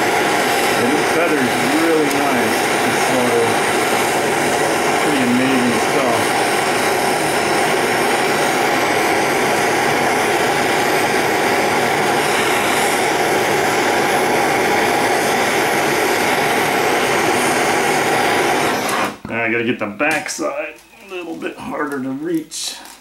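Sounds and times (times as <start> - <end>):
gas torch flame hissing: 0.0 - 19.2.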